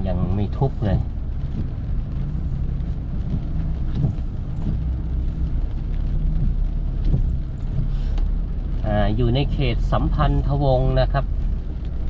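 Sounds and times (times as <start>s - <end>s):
car engine and tyres hum: 0.0s - 12.0s.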